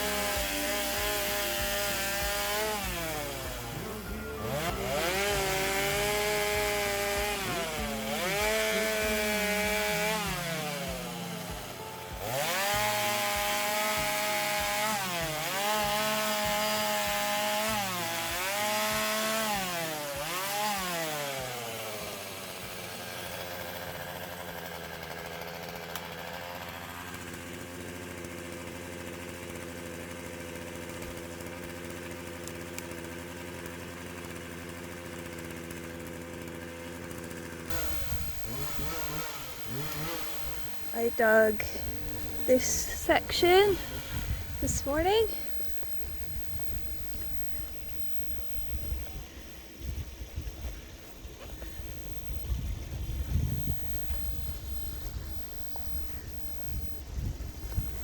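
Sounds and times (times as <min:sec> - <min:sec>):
small petrol engine revving: 0:00.0 - 0:58.0.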